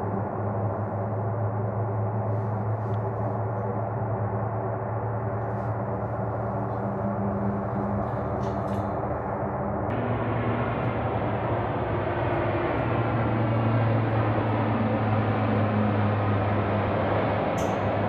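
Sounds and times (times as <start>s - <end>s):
propeller aircraft drone: 0.0s - 18.0s.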